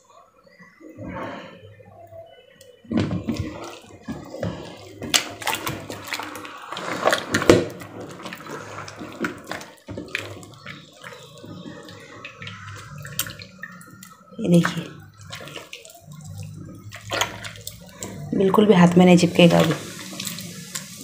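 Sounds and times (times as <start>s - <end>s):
butter sloshing and squelching: 0.5s - 21.0s.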